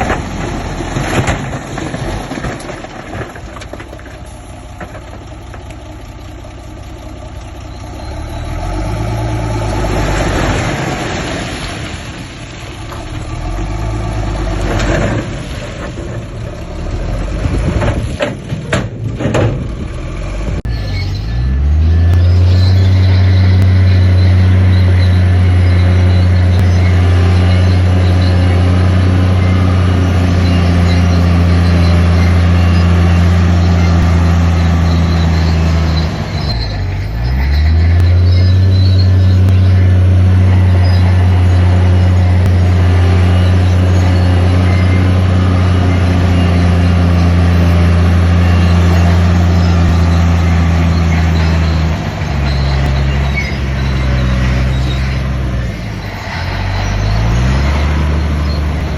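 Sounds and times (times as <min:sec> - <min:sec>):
heavy diesel bulldozer engine: 0:00.0 - 0:58.9.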